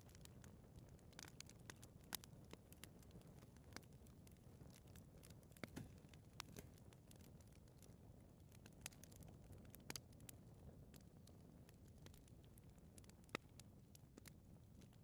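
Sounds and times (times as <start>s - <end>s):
fire crackles and pops: 0.0s - 15.0s
fire rumbling in fireplace: 0.0s - 15.0s.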